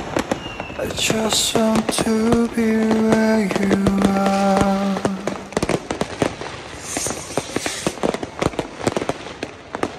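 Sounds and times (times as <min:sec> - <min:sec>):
fireworks and firecrackers banging: 0:00.0 - 0:09.9.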